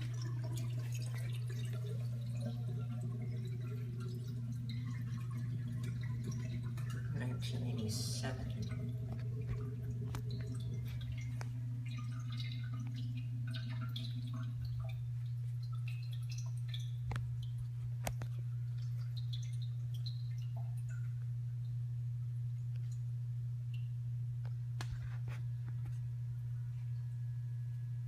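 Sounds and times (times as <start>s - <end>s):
water dripping in toilet tank: 0.0s - 24.9s
steady low hum: 0.0s - 28.0s.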